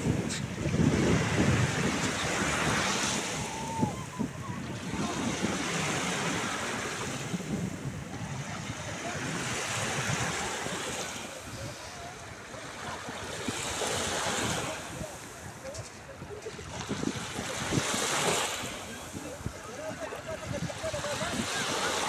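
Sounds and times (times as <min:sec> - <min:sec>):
small waves lapping on shore: 0:00.0 - 0:22.0
wind buffeting microphone: 0:00.0 - 0:22.0.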